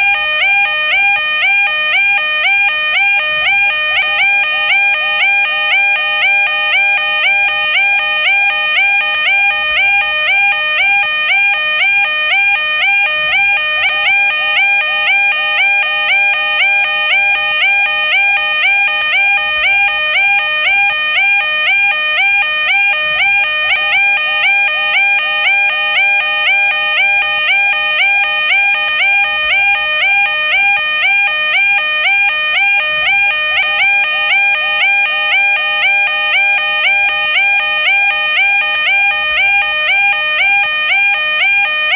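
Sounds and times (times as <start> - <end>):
two-tone crossing alarm: 0.0 - 41.9.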